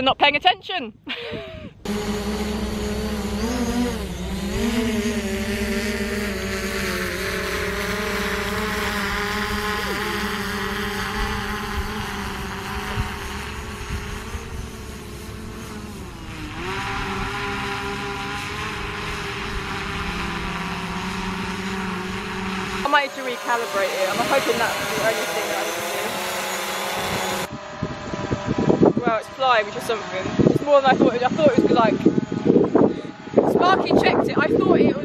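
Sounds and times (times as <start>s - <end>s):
drone propellers buzzing: 1.1s - 35.0s.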